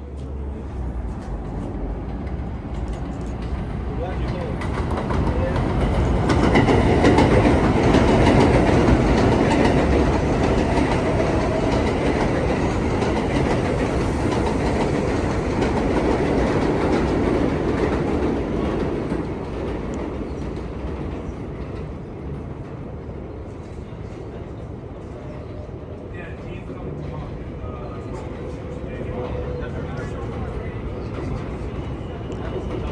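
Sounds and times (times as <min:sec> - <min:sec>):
subway train rumbling: 0:00.0 - 0:32.9.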